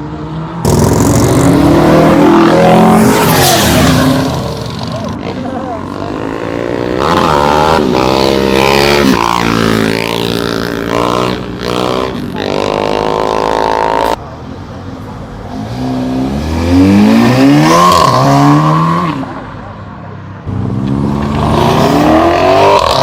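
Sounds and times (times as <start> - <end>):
car engines revving and accelerating: 0.0 - 14.2, 15.2 - 23.0.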